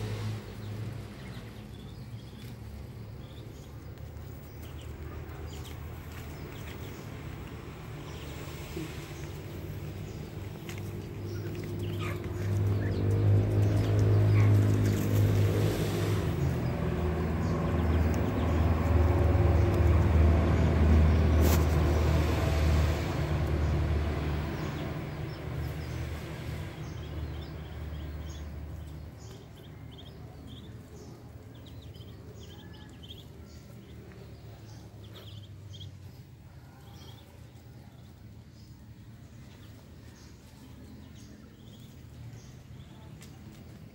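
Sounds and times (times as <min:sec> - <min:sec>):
ducklings peeping: 0:00.0 - 0:43.9
engine running close by: 0:00.0 - 0:43.9.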